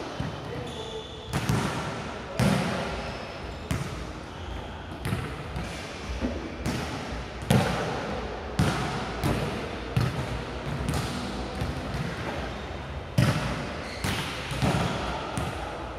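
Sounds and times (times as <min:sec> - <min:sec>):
balls bouncing in echoing hall: 0:00.0 - 0:15.9.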